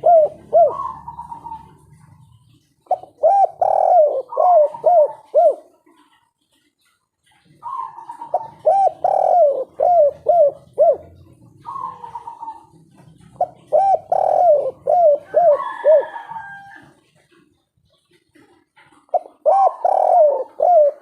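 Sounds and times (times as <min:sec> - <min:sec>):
dove cooing: 0:00.0 - 0:21.0.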